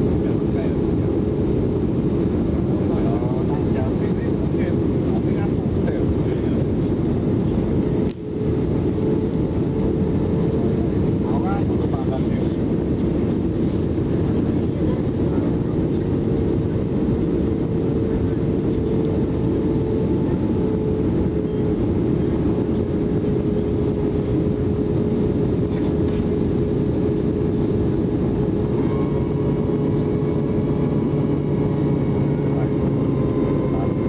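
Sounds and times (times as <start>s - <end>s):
aircraft cabin engine noise: 0.0s - 34.0s
multi-tone whine: 0.0s - 34.0s
steady hum: 0.0s - 34.0s.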